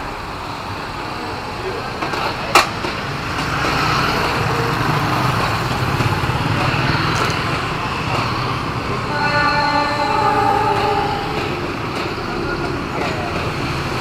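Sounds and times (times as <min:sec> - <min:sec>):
engine rumble: 0:00.0 - 0:14.0
traffic noise: 0:00.0 - 0:14.0.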